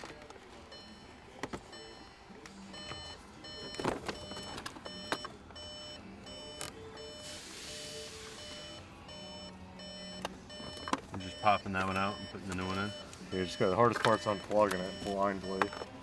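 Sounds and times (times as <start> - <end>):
faint repeating tones: 0.0 - 16.0.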